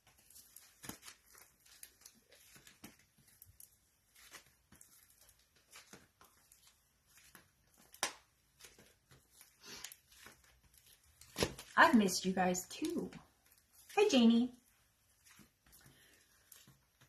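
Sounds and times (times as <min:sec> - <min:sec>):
hands tapping and rustling craft materials: 0:00.0 - 0:17.0.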